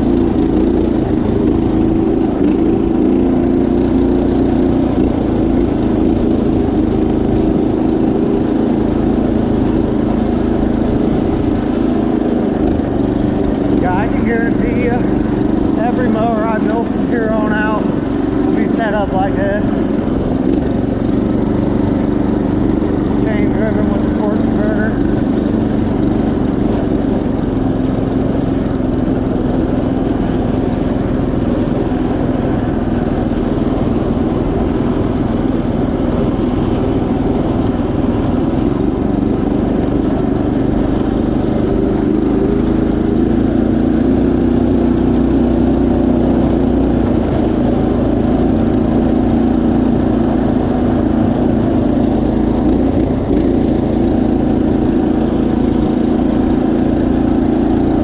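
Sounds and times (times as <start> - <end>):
riding mower engine running: 0.0 - 58.0.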